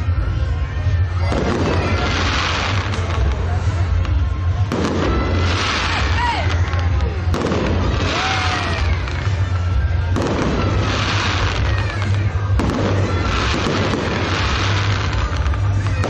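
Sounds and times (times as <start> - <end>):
crowd voices: 0.0 - 16.0
fireworks bursting and crackling: 0.0 - 16.0
fireworks whistling: 0.0 - 16.0.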